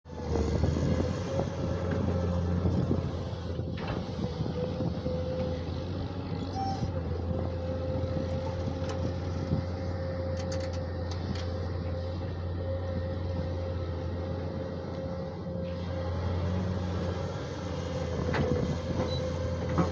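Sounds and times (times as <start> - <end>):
diesel engine running: 0.1 - 19.9.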